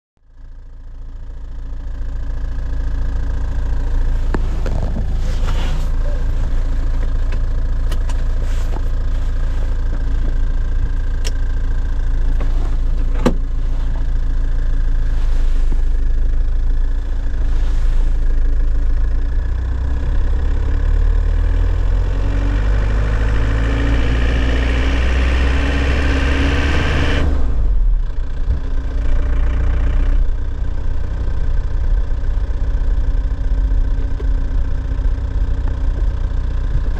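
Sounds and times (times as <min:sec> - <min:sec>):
truck engine idling: 0:00.2 - 0:21.6, 0:27.5 - 0:36.9.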